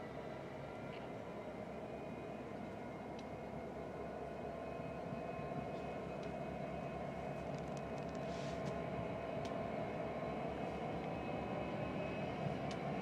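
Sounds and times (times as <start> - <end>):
locomotive engine droning: 0.0 - 13.0.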